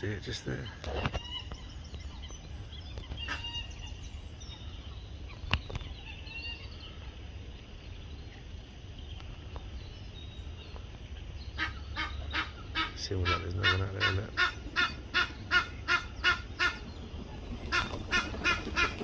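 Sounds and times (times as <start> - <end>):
birds calling: 0.0 - 19.0
steady low rumble: 0.0 - 19.0.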